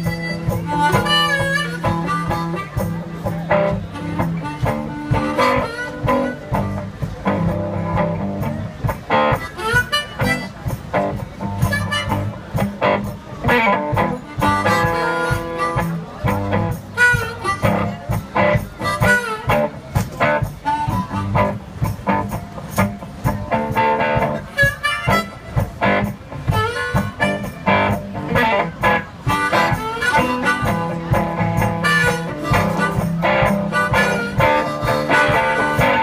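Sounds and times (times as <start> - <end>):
guitar: 0.0 - 36.0
harmonica melody: 0.0 - 36.0
steady beat: 0.0 - 36.0.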